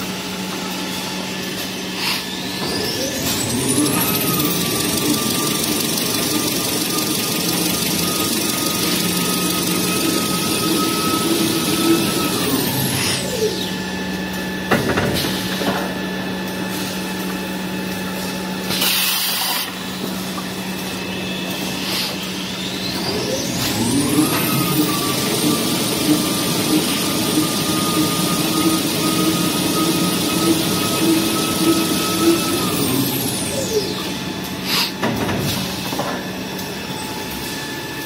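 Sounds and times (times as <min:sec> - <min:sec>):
high machine whine: 0:00.0 - 0:38.0
paper machine humming: 0:00.0 - 0:38.0.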